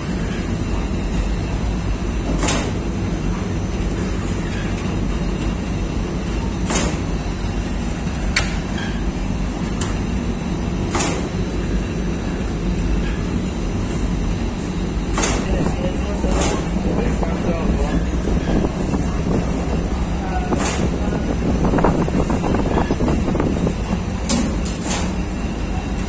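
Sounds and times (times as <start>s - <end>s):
bakery machinery humming: 0.0s - 26.0s.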